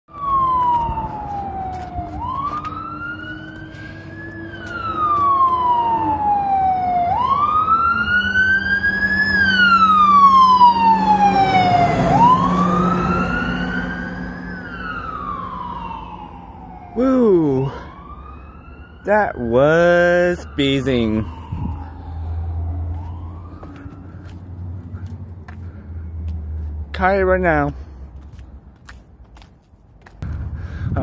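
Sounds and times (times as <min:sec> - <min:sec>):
fire engine siren wailing: 0:00.1 - 0:26.9
truck engine: 0:00.2 - 0:18.8, 0:19.5 - 0:29.6.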